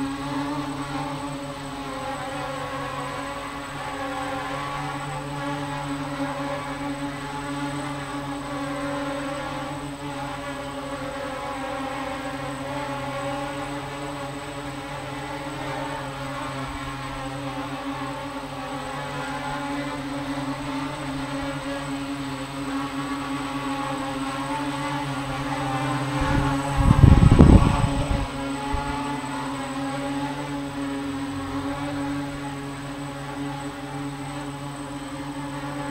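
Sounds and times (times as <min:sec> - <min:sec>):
quadcopter propellers buzzing: 0:00.0 - 0:35.9.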